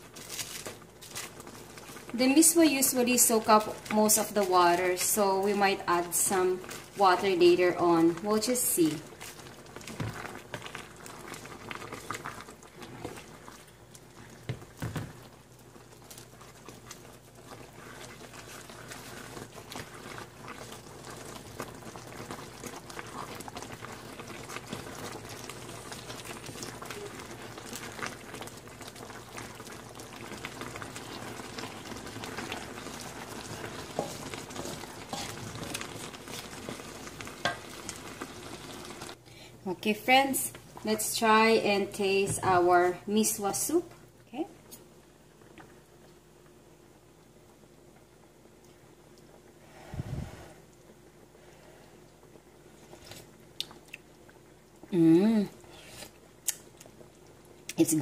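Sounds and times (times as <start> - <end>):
soup boiling: 0.0 - 58.0.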